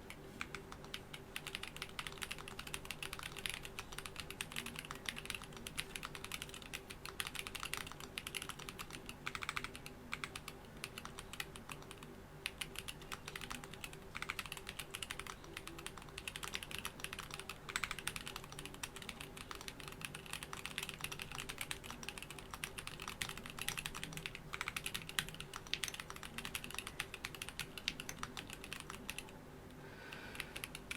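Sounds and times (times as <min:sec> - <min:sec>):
mechanical keyboard typing: 0:00.0 - 0:29.4, 0:30.3 - 0:30.9.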